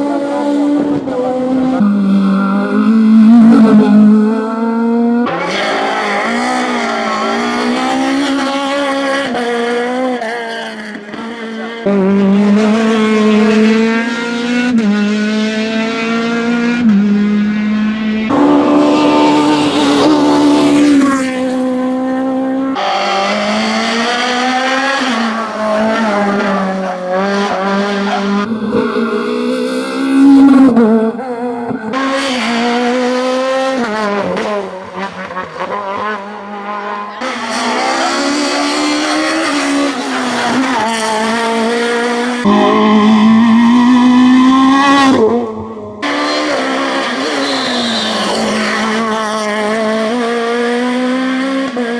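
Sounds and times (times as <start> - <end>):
rally car engine accelerating: 0.0 - 51.9.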